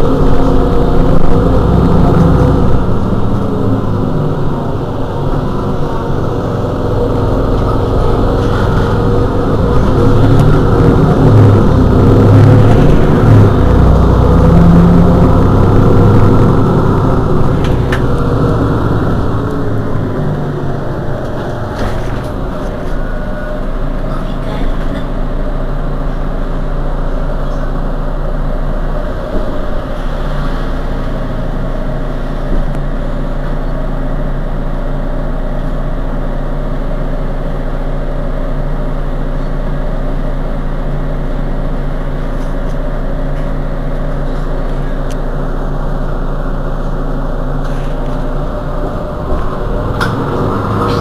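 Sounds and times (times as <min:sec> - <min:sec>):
bus engine idling: 0:00.0 - 0:51.0.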